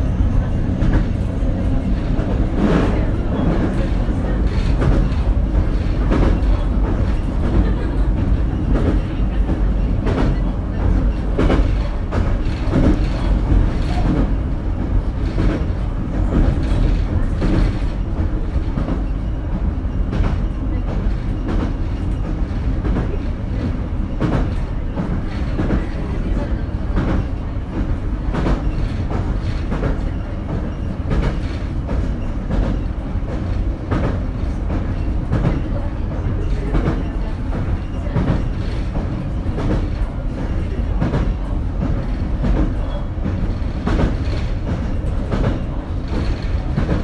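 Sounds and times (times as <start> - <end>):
train running rumble: 0.0 - 47.0.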